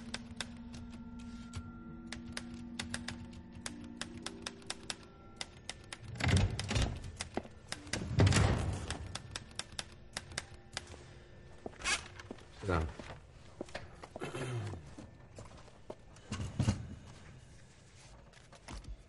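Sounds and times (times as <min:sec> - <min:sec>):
low sustained music: 0:00.0 - 0:19.0.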